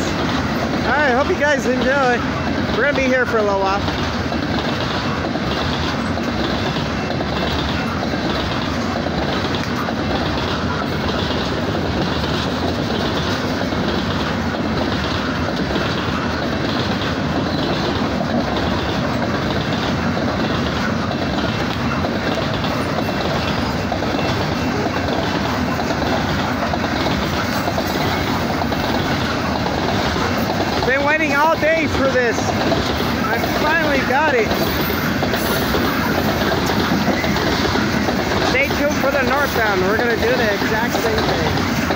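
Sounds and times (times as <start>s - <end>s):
train wheels clattering over rails: 0.0s - 41.9s.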